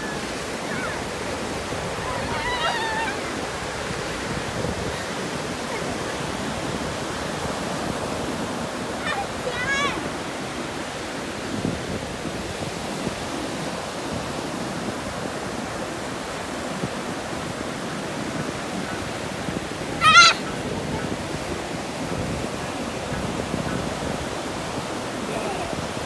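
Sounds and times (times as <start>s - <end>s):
waves breaking on shore: 0.0s - 26.0s.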